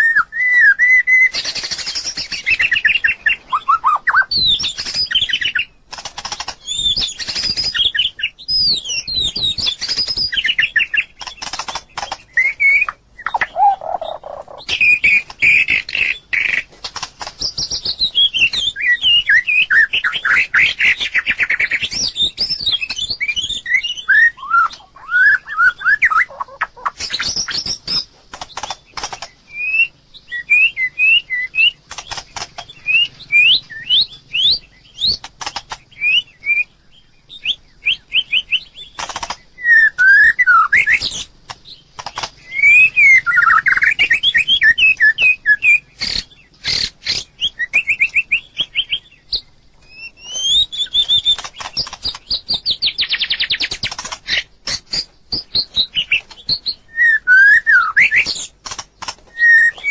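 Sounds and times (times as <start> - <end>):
bird singing whistled notes: 0.0 - 5.8, 6.5 - 16.7, 17.4 - 59.9
sharp bird clicks: 0.0 - 36.7, 37.3 - 59.9.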